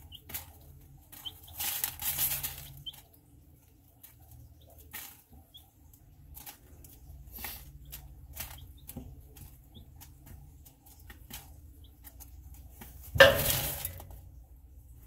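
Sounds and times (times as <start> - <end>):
chicks peeping: 0.0 - 13.2
chicks pecking and scratching: 0.0 - 15.0.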